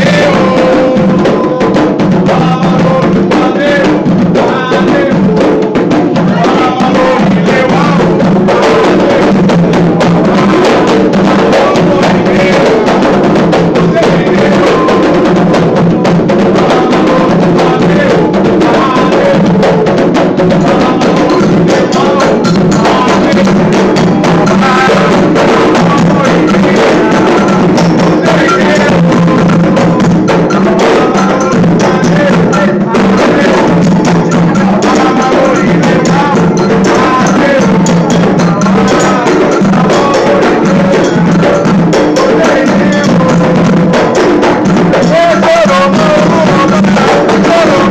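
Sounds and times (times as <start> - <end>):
hand drums playing: 0.0 - 47.9
voices chanting: 0.0 - 47.9.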